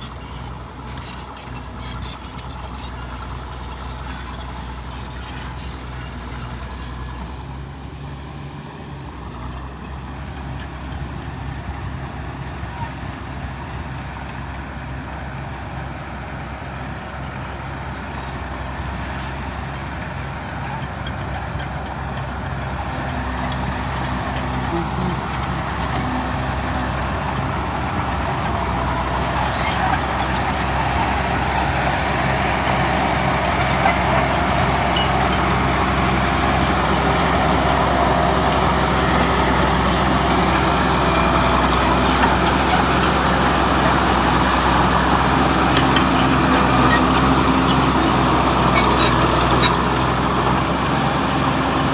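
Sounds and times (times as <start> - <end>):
diesel engine of heavy machine: 0.0 - 51.9.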